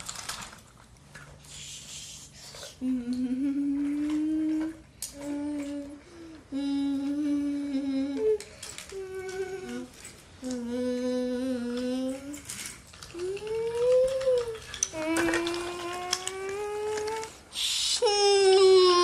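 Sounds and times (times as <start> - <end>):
child humming: 1.6 - 19.0.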